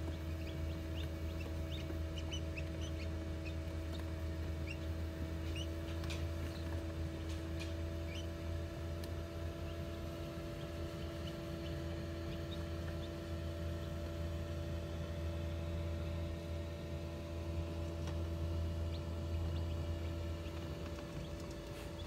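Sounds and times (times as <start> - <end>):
chicks peeping: 0.0 - 22.0
incubator fan humming: 0.0 - 22.0.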